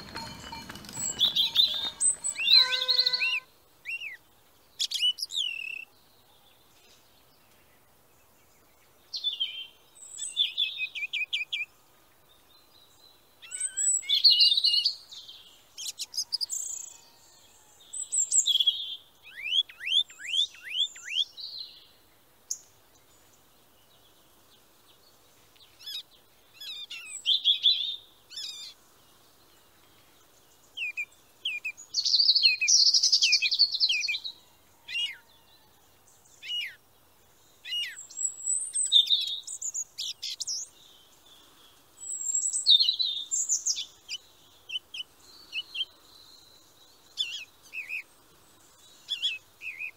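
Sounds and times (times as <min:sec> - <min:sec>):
songbirds chirping and singing: 0:00.0 - 0:49.9.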